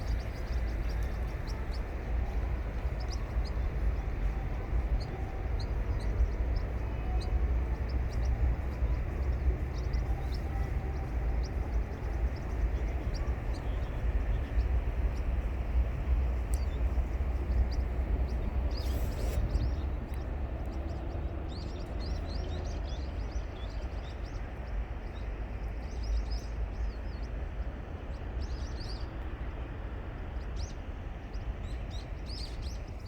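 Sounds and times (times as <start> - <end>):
small birds chirping: 0.0 - 29.3, 30.4 - 33.0
rushing water with low rumble: 0.0 - 33.0.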